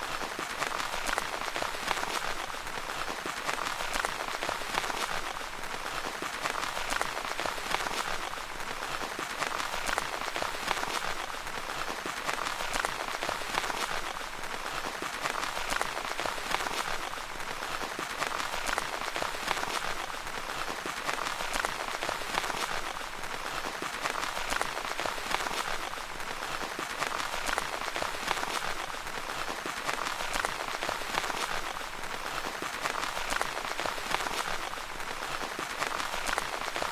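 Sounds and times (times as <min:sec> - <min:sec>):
rain pattering on tent fabric: 0:00.0 - 0:36.9.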